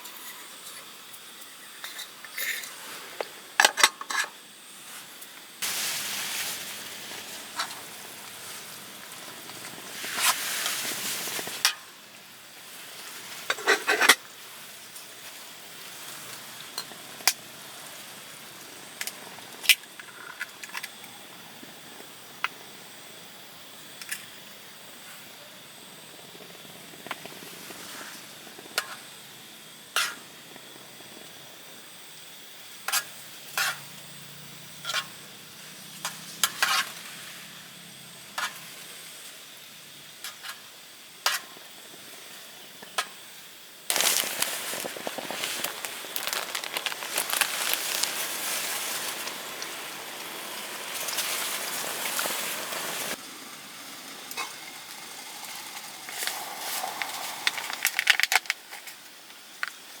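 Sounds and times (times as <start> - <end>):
steady hiss: 0.0 - 60.0.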